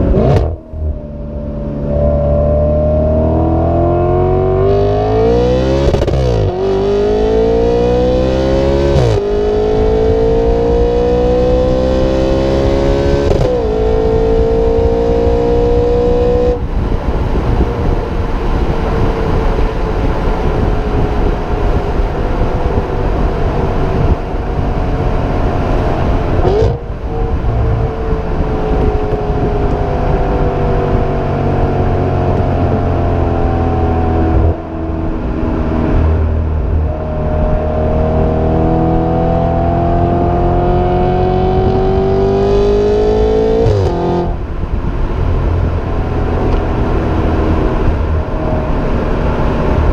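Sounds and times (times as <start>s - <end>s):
car engine revving at full throttle: 0.0s - 49.9s.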